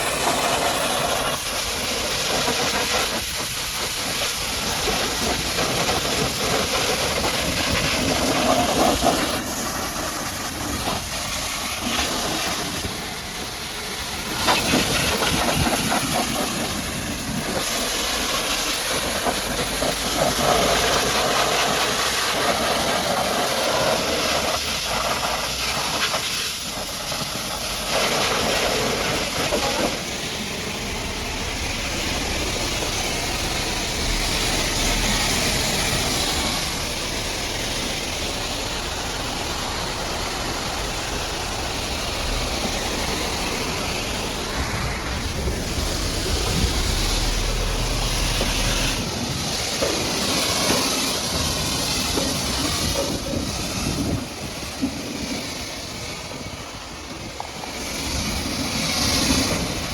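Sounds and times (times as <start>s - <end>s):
pressure washer spraying: 0.0s - 59.9s.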